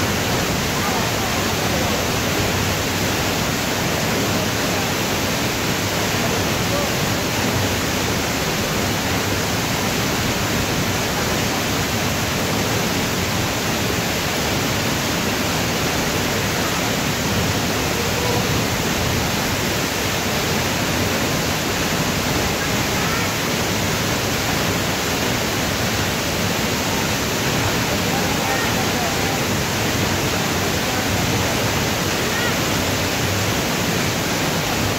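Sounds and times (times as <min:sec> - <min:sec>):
waterfall pouring into pool: 0:00.0 - 0:34.9.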